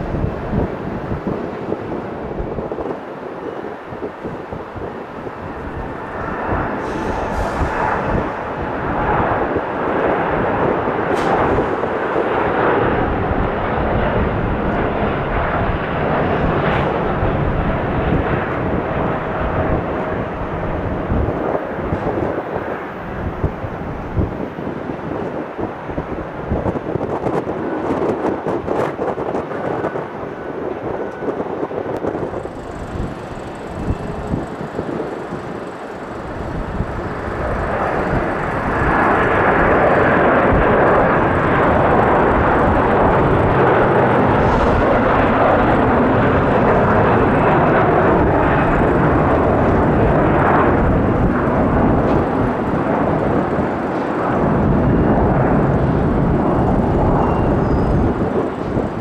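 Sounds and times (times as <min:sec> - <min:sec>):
jet engines passing: 0:00.0 - 0:59.0.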